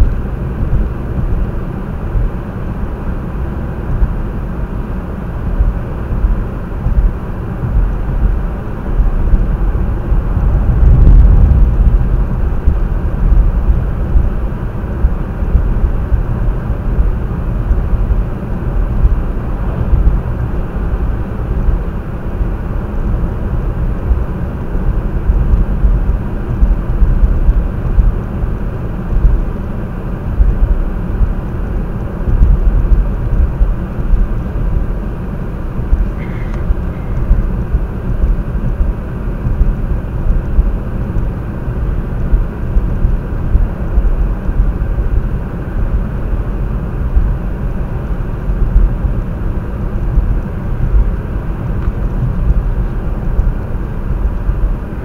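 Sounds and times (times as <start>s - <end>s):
car driving on snowy road: 0.0s - 55.0s.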